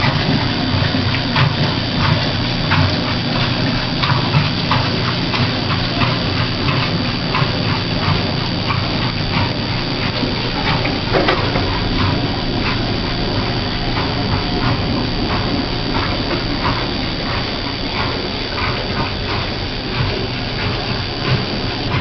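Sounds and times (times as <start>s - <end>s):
washing machine water sloshing: 0.0s - 22.0s.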